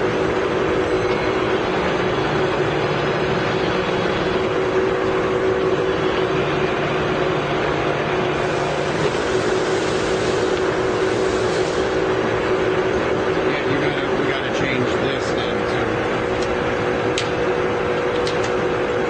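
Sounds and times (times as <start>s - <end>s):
lathe running with whine: 0.0s - 19.0s.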